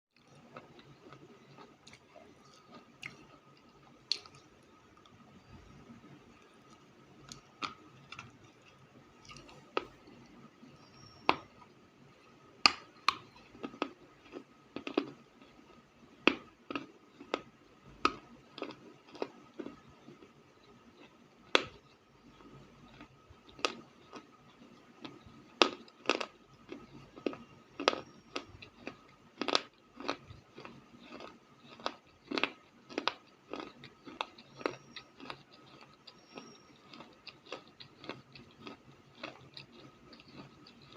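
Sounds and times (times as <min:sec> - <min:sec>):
person chewing crunchy clay: 0:00.2 - 0:11.8, 0:12.6 - 0:40.9.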